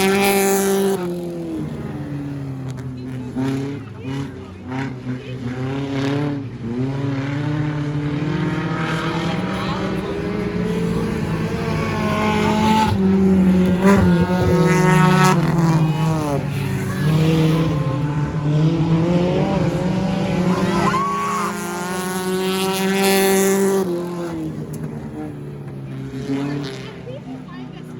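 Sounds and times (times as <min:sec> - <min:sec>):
cars passing by: 0:00.0 - 0:27.9
race car engines: 0:00.0 - 0:27.9.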